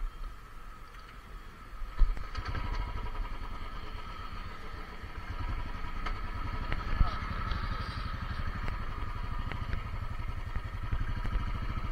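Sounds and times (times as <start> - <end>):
motorcycle engine running: 1.5 - 11.9.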